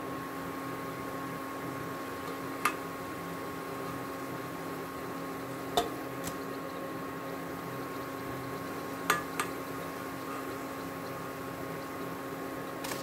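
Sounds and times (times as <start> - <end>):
steady hum: 0.0 - 13.0
hot oil sizzling: 0.1 - 13.0.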